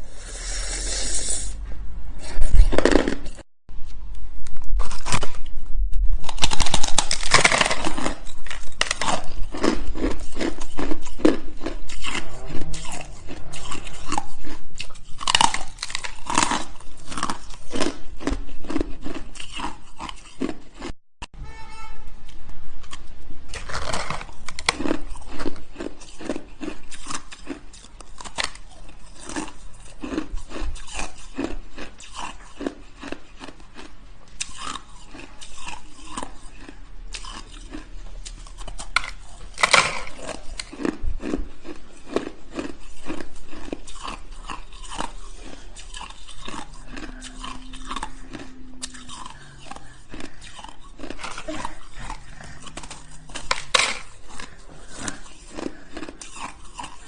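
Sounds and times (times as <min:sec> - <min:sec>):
person chewing crunchy ice: 0:02.2 - 0:03.5, 0:04.8 - 0:05.5, 0:06.2 - 0:21.0, 0:22.8 - 0:57.0.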